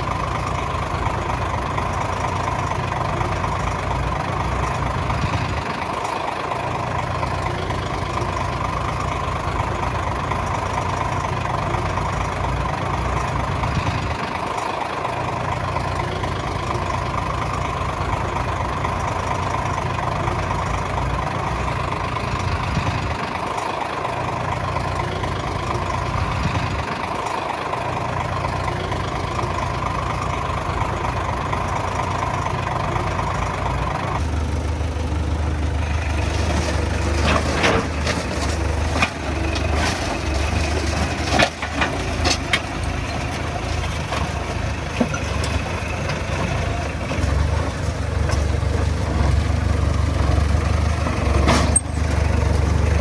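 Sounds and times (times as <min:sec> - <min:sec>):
diesel machinery engine running: 0:00.0 - 0:53.0.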